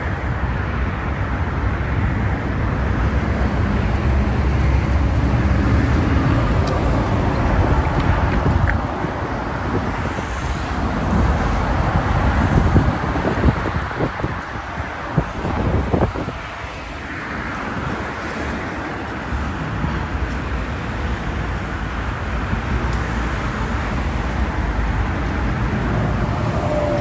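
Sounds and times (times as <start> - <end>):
highway traffic rumble: 0.0 - 27.0
wind buffeting microphone: 1.1 - 22.9, 24.2 - 27.0.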